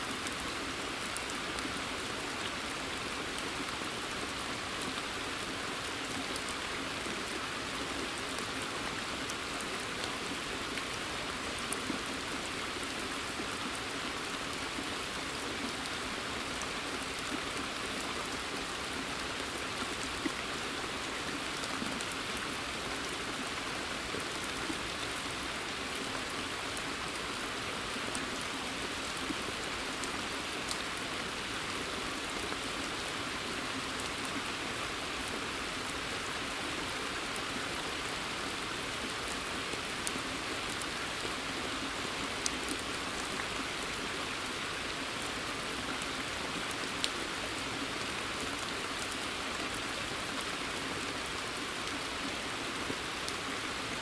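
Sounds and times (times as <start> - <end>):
rain on pond and leaves: 0.0 - 54.0.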